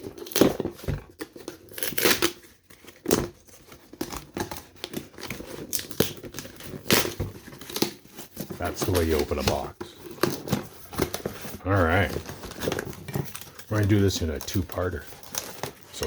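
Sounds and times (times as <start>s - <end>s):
cardboard box tearing and crinkling: 0.0s - 16.0s.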